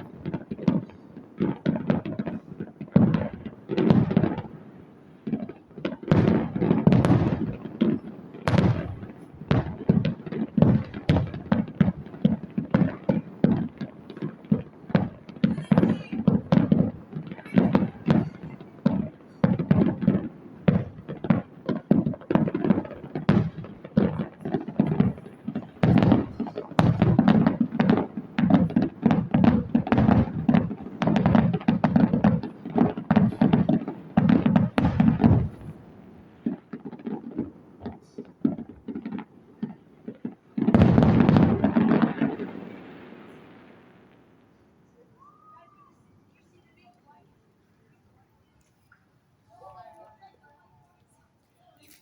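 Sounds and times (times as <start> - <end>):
fireworks bangs and crackles: 0.0 - 47.6.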